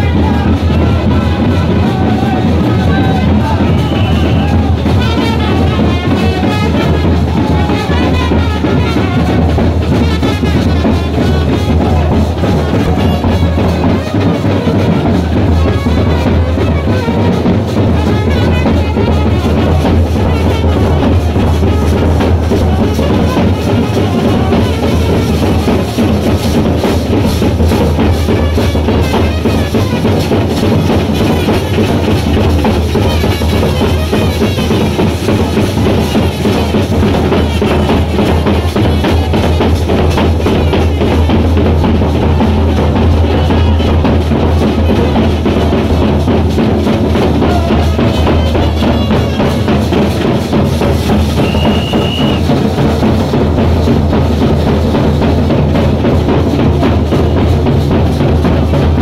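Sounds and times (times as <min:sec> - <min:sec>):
bass drum and snare drums: 0:00.0 - 0:59.0.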